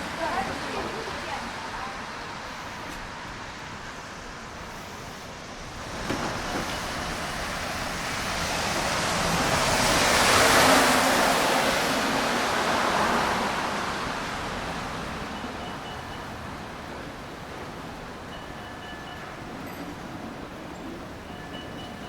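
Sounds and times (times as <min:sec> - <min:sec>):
tyres hissing on wet road: 0:00.0 - 0:22.0.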